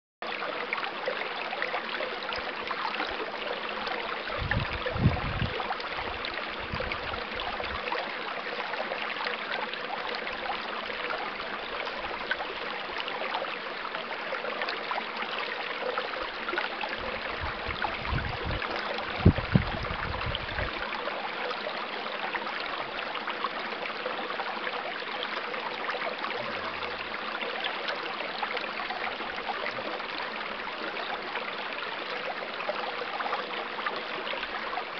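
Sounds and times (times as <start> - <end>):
stream water flowing: 0.2 - 34.9.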